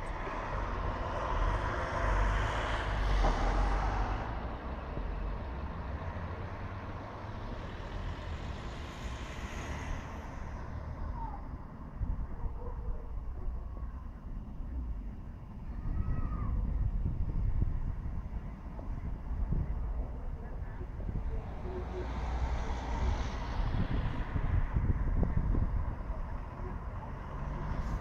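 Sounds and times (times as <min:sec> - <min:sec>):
low traffic rumble: 0:00.0 - 0:28.0.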